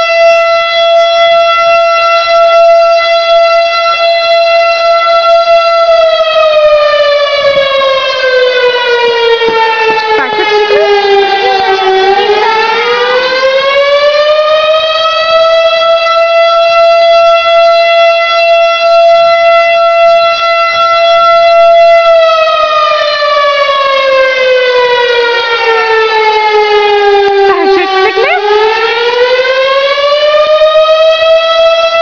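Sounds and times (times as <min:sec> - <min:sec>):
fire siren slow wail: 0:00.0 - 0:32.0.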